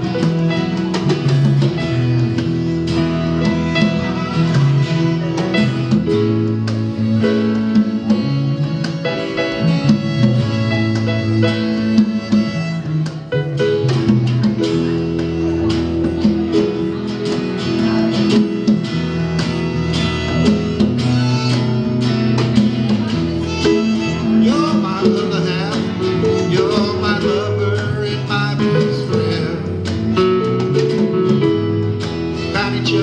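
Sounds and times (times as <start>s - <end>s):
guitar plucked and strummed: 0.0s - 33.0s
live band playing: 0.0s - 33.0s.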